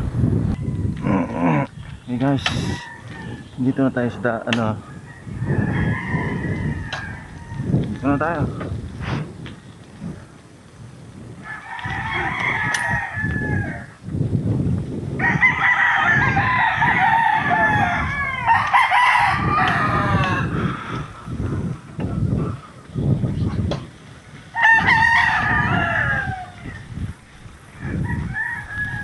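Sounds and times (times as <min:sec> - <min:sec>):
wind buffeting microphone: 0:00.0 - 0:29.0
roosters crowing: 0:00.5 - 0:08.7, 0:11.3 - 0:14.0, 0:15.1 - 0:22.9, 0:24.3 - 0:29.0.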